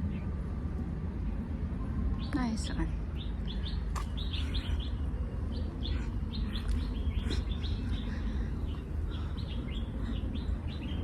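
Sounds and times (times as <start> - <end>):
steady low rumble: 0.0 - 11.0
small birds chirping: 1.2 - 11.0.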